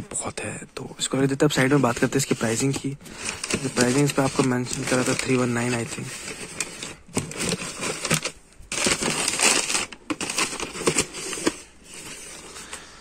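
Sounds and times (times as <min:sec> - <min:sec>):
paper and plastic crinkling: 0:01.2 - 0:13.0.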